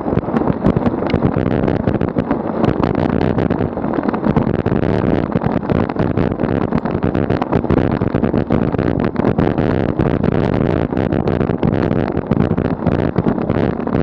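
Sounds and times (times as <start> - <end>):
bicycle road noise: 0.0 - 14.0
wind buffeting microphone: 0.0 - 14.0.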